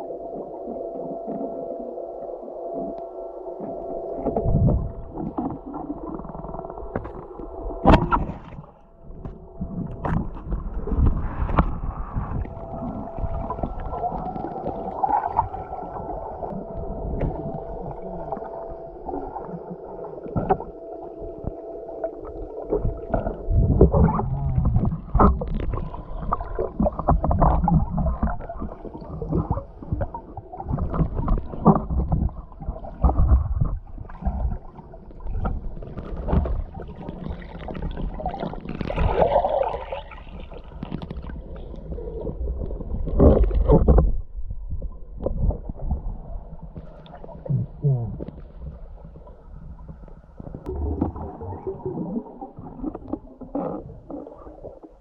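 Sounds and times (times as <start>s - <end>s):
faint steady whine: 0.0s - 55.0s
underwater water gurgling: 0.0s - 55.0s.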